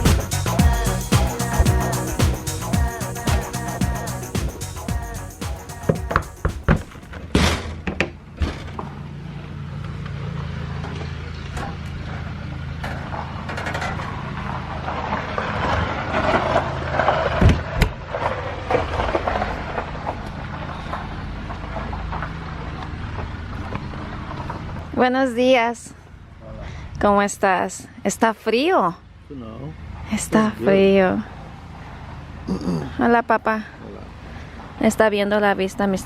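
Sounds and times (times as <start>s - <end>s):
engine humming: 0.0s - 36.0s.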